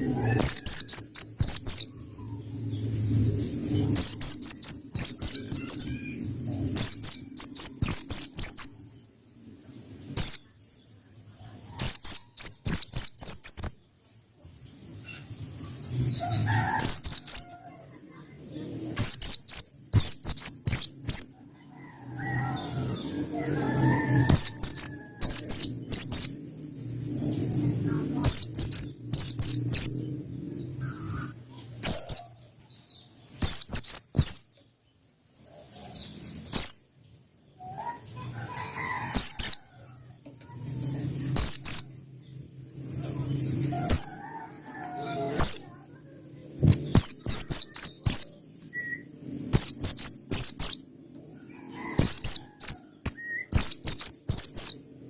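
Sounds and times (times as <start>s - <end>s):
small bird singing high chirps: 0.0s - 35.0s, 35.6s - 54.9s.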